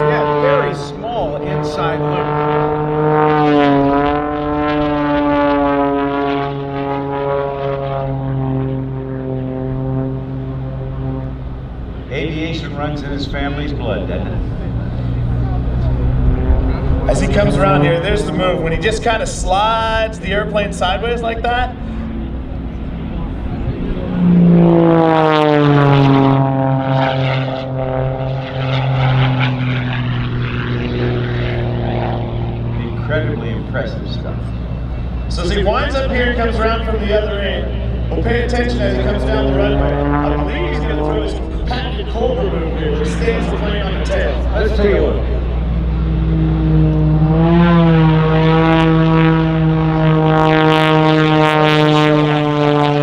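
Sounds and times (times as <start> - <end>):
propeller plane engine buzzing: 0.0 - 53.0.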